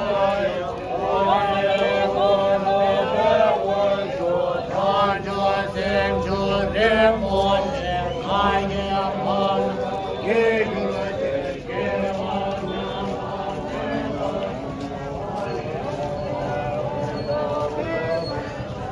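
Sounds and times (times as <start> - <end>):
group chanting prayer: 0.0 - 18.9.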